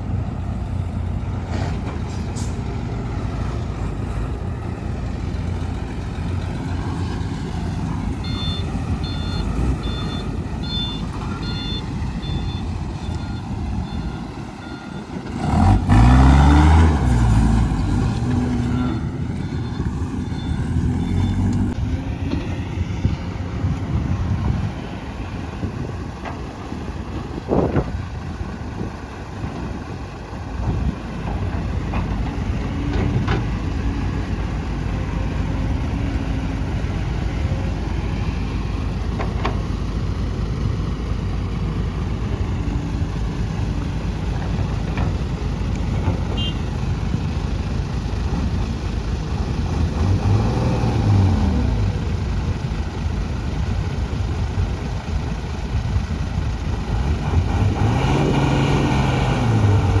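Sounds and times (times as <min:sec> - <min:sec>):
dump truck diesel engine revving: 0:00.0 - 1:00.0.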